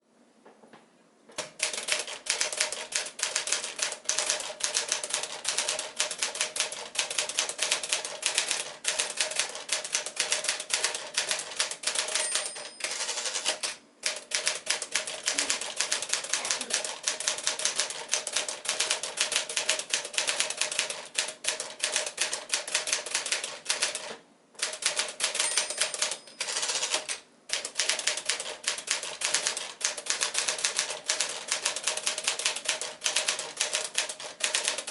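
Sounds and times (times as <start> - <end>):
manual typewriter typing: 1.4 - 34.9.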